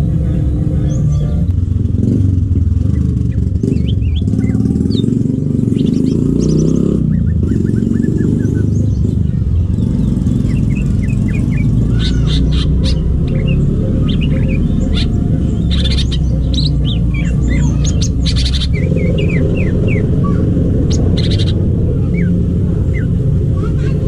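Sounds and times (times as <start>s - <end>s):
loud low rumble: 0.0s - 24.0s
bird chirping and whistling: 2.8s - 23.9s.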